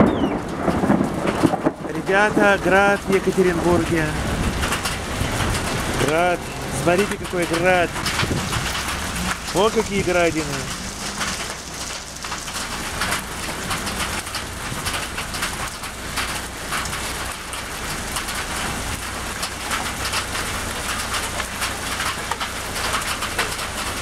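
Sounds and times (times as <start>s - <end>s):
hail pattering on asphalt: 0.0s - 24.0s
downpour hissing: 1.8s - 24.0s.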